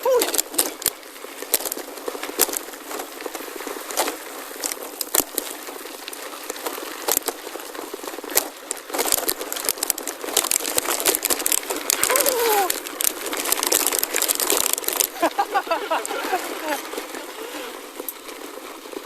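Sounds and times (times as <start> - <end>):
crackling rustling noise: 0.0 - 19.0.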